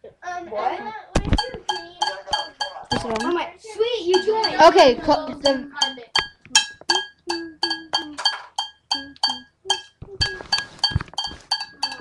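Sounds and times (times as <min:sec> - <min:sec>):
drum beat on hard percussion: 0:01.2 - 0:03.4, 0:04.1 - 0:12.0.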